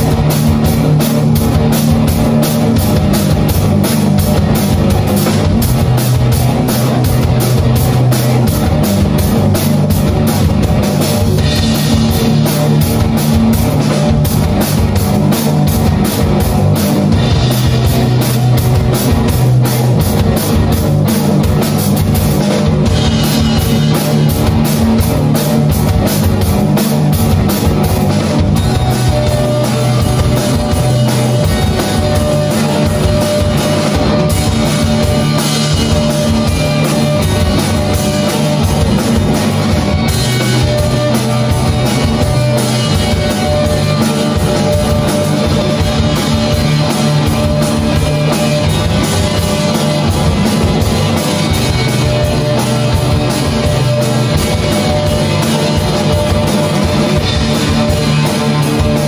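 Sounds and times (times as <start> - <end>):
distorted electric guitar: 0.0 - 59.0
drum kit steady beat: 0.0 - 59.0.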